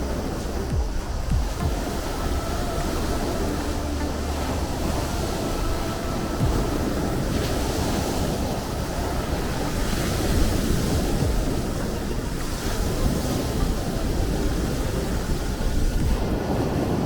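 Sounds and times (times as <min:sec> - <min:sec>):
sea waves breaking: 0:00.0 - 0:17.0
wind buffeting microphone: 0:00.0 - 0:17.0.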